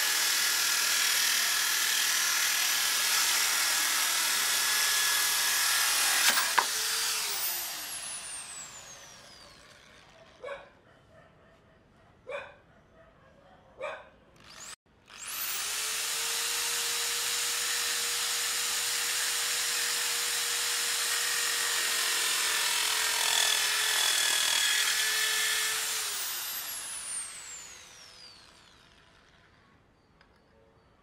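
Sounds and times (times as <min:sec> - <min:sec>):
drill cutting particle board: 0:00.0 - 0:10.2, 0:14.4 - 0:29.5
drill motor winding down: 0:00.0 - 0:10.4, 0:14.4 - 0:29.6.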